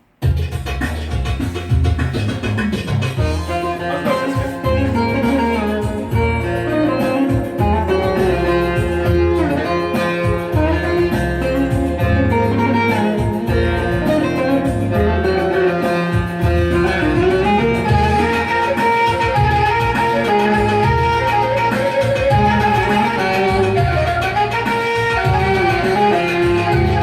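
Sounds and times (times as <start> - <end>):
plucked string instruments: 0.2 - 27.0
pulsing bass line: 0.2 - 27.0.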